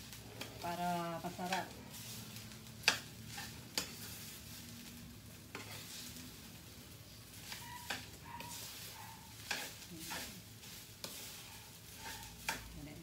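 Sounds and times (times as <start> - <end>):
rice sizzling in a pan: 0.0 - 13.0
spatula scraping a pan: 0.0 - 13.0.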